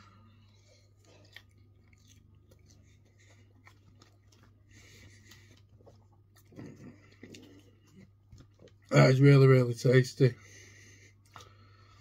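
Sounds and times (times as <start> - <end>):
chewing fries: 0.0 - 9.8, 10.9 - 12.0.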